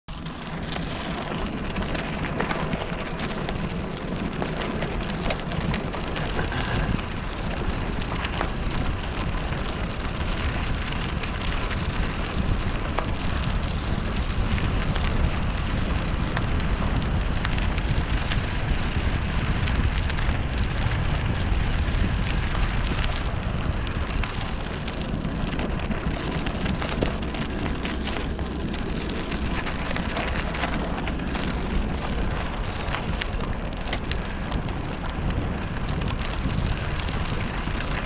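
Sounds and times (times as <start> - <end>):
bicycle tyres on gravel: 0.1 - 38.0
wind rumble on microphone: 0.1 - 38.0.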